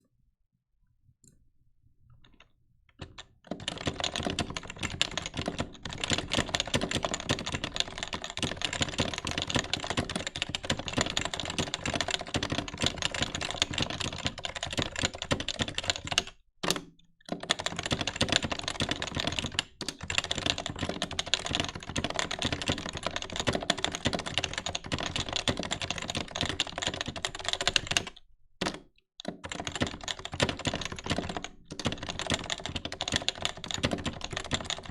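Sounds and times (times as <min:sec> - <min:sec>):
fast keyboard typing: 0:03.0 - 0:34.9.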